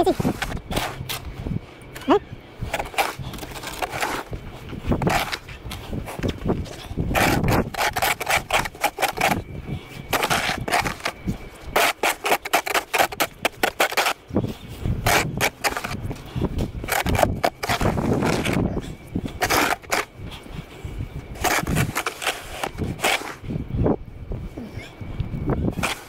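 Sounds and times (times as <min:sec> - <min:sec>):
crunching and scraping in snow: 0:00.0 - 0:23.6, 0:25.6 - 0:26.0.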